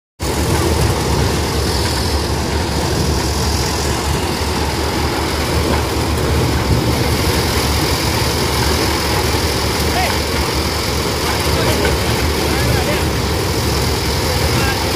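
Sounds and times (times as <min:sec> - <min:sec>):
threshing drum churning cobs: 0:00.2 - 0:14.9
tractor engine running: 0:00.2 - 0:14.9.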